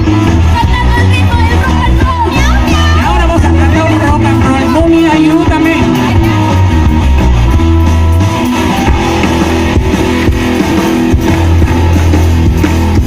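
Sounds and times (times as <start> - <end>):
bass line: 0.0 - 13.0
guitar: 0.0 - 13.0
rock and roll band playing: 0.0 - 13.0.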